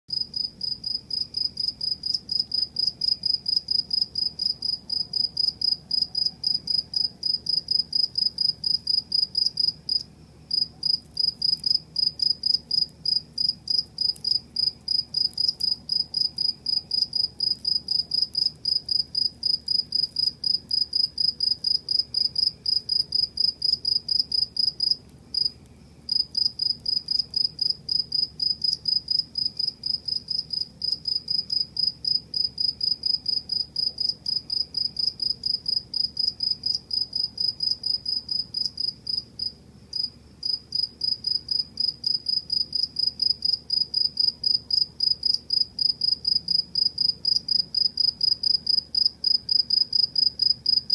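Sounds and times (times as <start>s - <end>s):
cricket chirping: 0.1s - 50.9s.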